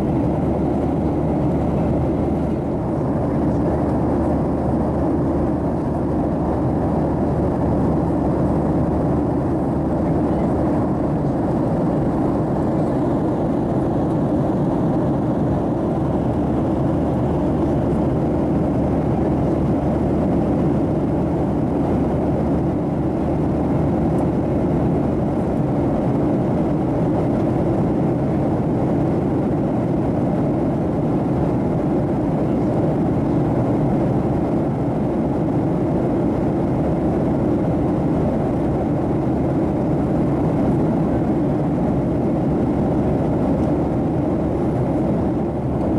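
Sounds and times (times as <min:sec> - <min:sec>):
airplane cabin drone: 0:00.0 - 0:45.9.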